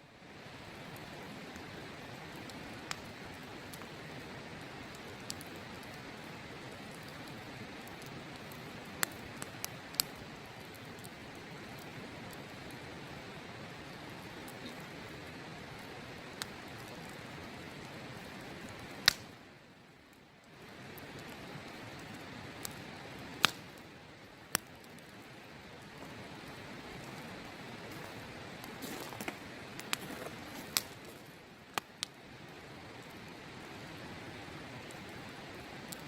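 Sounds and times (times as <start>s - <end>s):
campfire crackling and popping: 0.2s - 36.0s.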